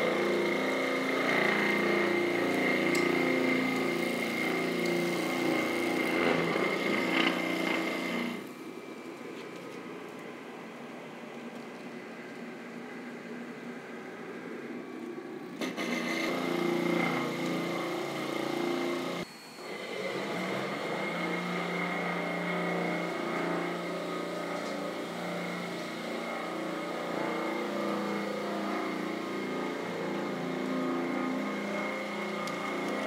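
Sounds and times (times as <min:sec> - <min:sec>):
floor grinder whining drone: 0:00.0 - 0:33.0
vacuum running: 0:00.0 - 0:33.0.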